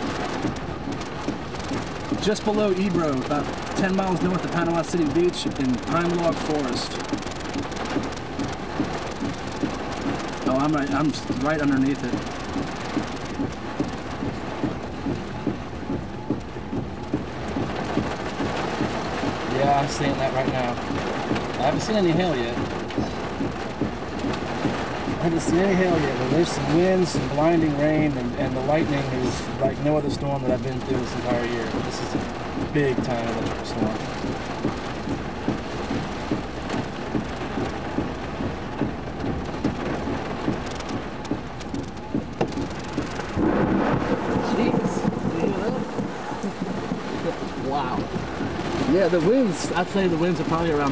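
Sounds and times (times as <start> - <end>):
heavy rain pelting vehicle: 0.0 - 50.9.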